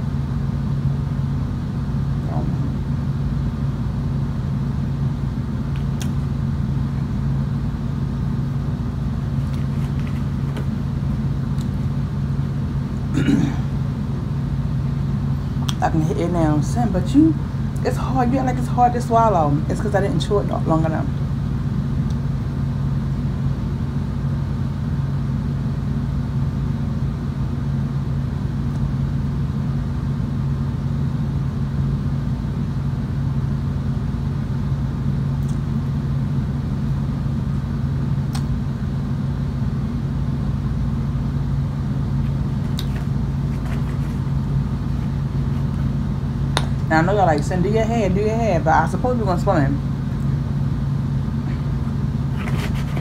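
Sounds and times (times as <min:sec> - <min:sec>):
loud low hum: 0:00.0 - 0:53.0.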